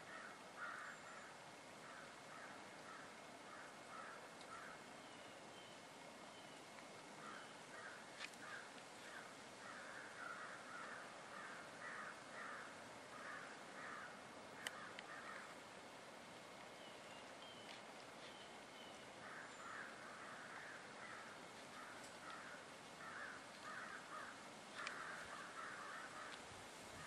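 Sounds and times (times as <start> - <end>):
bird calling: 0.1 - 15.6, 16.8 - 26.4.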